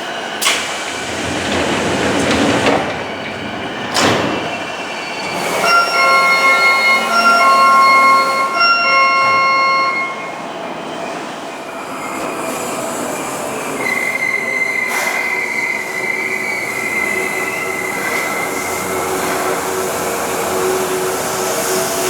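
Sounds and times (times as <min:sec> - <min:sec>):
electric train whine: 0:00.0 - 0:22.0
train running noise: 0:00.0 - 0:22.0
high wheel squeal: 0:00.5 - 0:11.0, 0:11.8 - 0:22.0.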